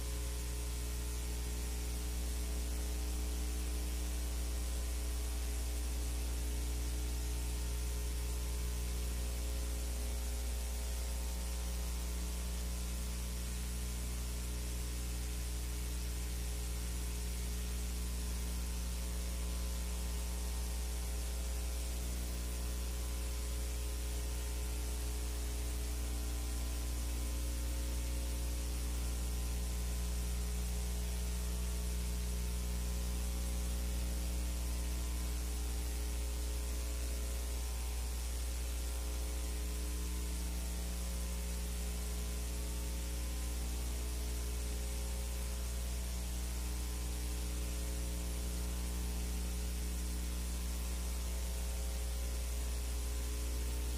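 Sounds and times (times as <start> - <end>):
constant hiss: 0.0 - 53.9
electrical mains hum: 0.0 - 53.9.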